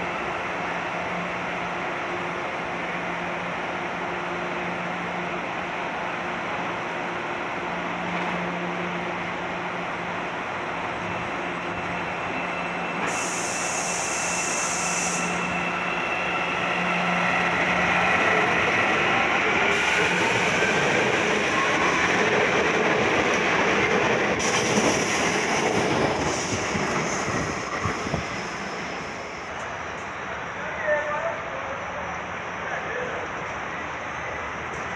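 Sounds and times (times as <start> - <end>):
train whine gliding in pitch: 0.0 - 34.8
electric train hum: 0.0 - 34.9.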